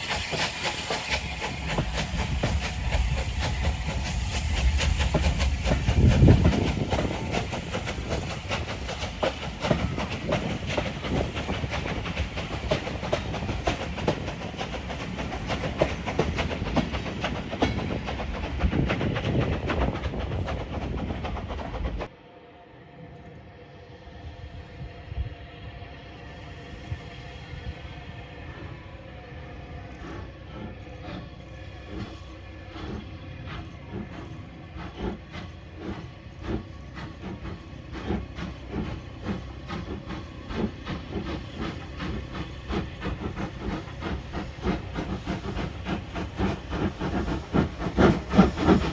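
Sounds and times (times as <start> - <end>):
steam hissing: 0.0 - 22.1, 26.3 - 48.9
train wheels clicking over rail joints: 0.0 - 22.1, 29.9 - 48.9.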